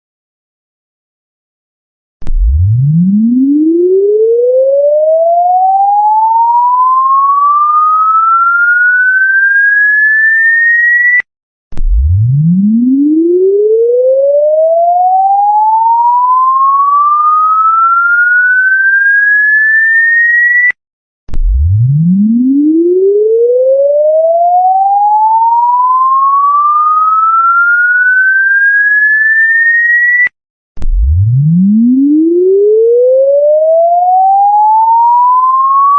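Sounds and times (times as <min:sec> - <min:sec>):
sine tone sweeping up: 0:02.2 - 0:11.2, 0:11.8 - 0:20.7, 0:21.6 - 0:35.9.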